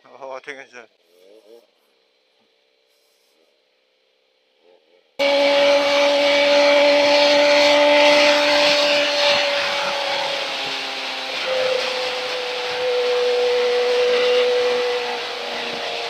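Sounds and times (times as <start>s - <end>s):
motorcycle engine at high revs: 0.9s - 3.3s, 4.0s - 16.0s.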